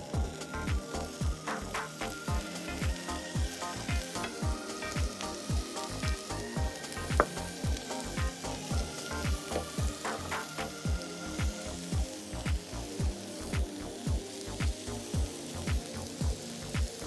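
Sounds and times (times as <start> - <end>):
background music with steady beat: 0.0 - 17.0
meat and prawns sizzling on grill: 0.0 - 17.0.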